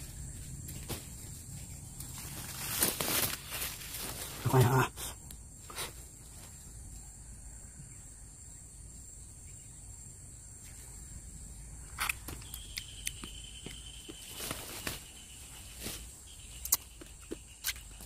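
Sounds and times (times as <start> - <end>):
high insect buzz: 0.0 - 18.0.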